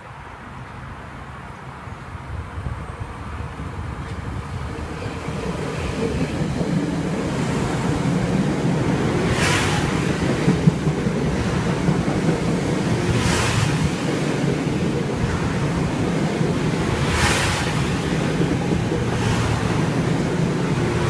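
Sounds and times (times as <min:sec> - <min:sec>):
electric train rumbling past: 0:01.8 - 0:21.0.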